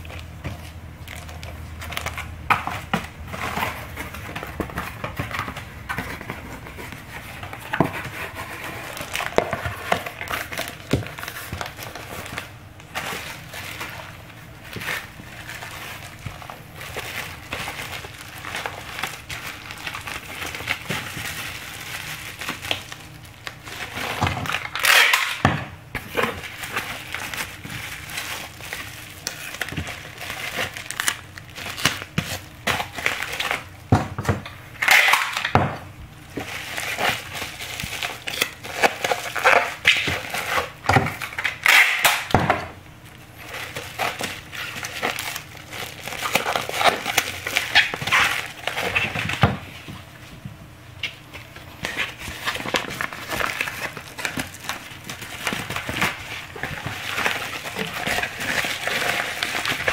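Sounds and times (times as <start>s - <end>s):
bubble wrap crinkling: 0.0s - 33.9s, 34.5s - 59.9s.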